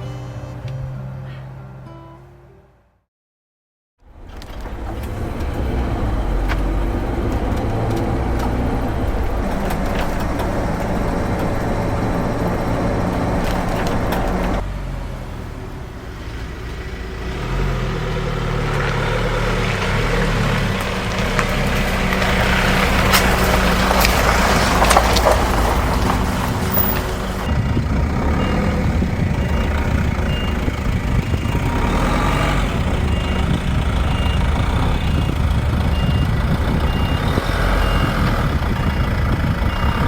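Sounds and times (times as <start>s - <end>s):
road and tyre noise: 4.0s - 40.0s
vehicle engine running: 4.0s - 40.0s.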